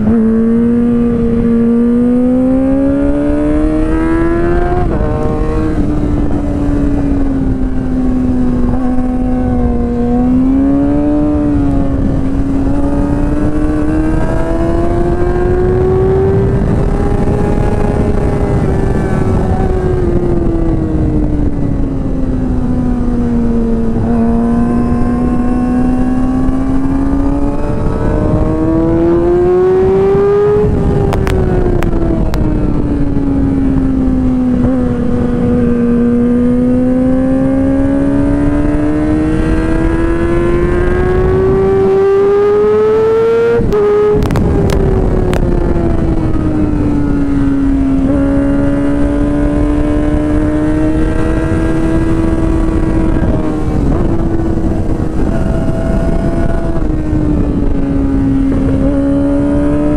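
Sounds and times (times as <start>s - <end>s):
motorcycle engine revving high: 0.0s - 59.9s
wind noise: 0.0s - 59.9s.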